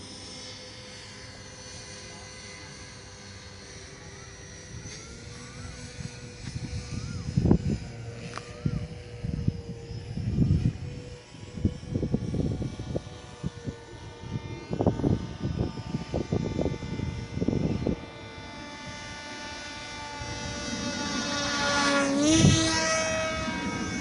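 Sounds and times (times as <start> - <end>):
model aircraft propeller whining: 0.0 - 24.0
wind buffeting microphone: 4.7 - 24.0.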